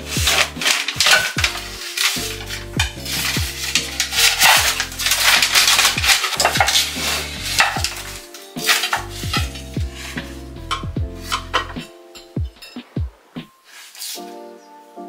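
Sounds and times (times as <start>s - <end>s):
dishes and cutlery clattering: 0.0s - 13.0s
background music: 0.0s - 15.0s.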